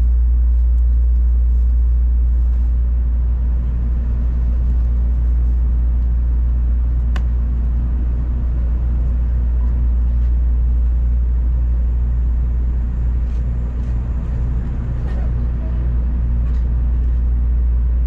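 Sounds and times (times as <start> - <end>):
train rumbling inside cabin: 0.0 - 18.0.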